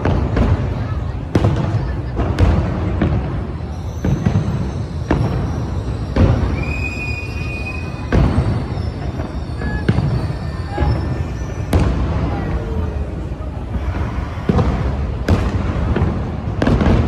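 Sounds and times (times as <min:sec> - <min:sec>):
fireworks bangs: 0:00.0 - 0:17.0
low rumble of exploding shells: 0:00.0 - 0:17.0.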